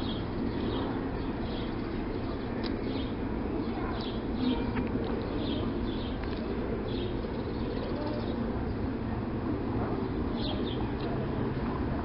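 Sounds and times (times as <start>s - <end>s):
small birds chirping: 0.0s - 9.0s, 10.0s - 11.2s
steady low rumble: 0.0s - 12.0s.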